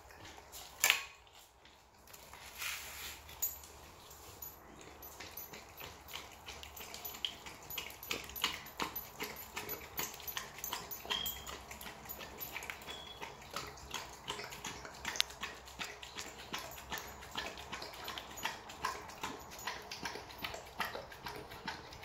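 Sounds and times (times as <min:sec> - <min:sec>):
dog lapping and chewing: 0:00.0 - 0:02.5, 0:03.2 - 0:22.0.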